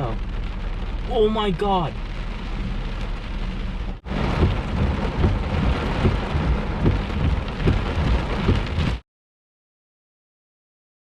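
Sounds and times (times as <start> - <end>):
heavy rain pelting down: 0.0 - 9.0
thunder rumbling: 0.0 - 9.0.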